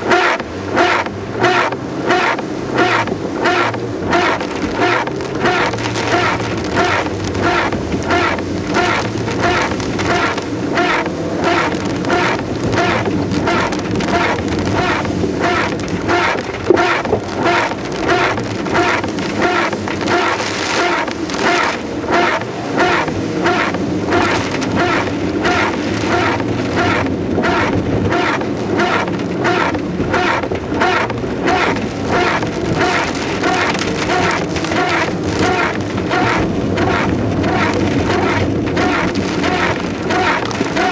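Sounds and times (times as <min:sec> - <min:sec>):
car engine and road hum: 0:00.0 - 0:40.9
rain on windshield and roof: 0:00.0 - 0:40.9
windshield wipers swishing: 0:00.0 - 0:40.9.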